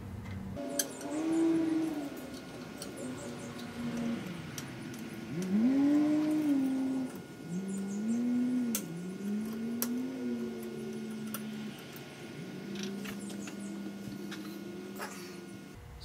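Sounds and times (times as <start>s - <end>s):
long gliding held notes: 0.6s - 15.8s.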